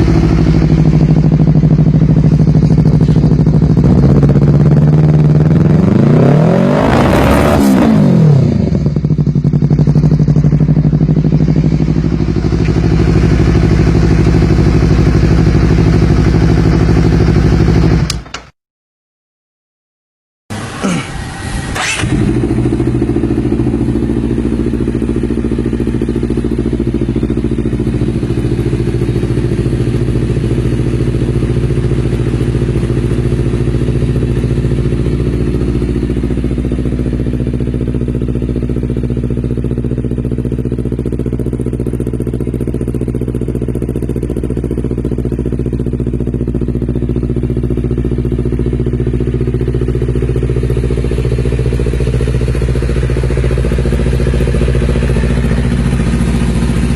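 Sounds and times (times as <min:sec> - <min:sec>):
motorcycle engine idling: 0:00.0 - 0:06.0, 0:07.9 - 0:18.2, 0:20.5 - 0:56.9.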